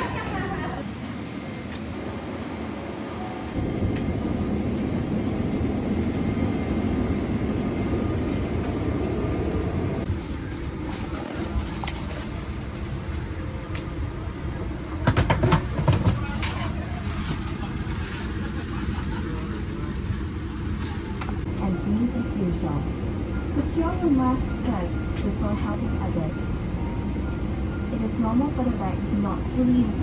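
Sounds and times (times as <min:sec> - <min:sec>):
cabin ventilation rushing hum: 0:00.0 - 0:30.0.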